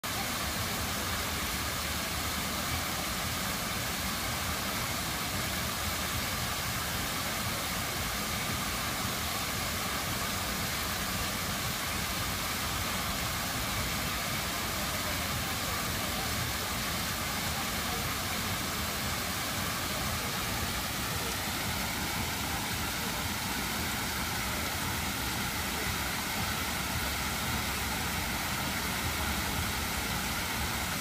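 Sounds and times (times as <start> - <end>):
fountain water cascading: 0.0 - 31.0.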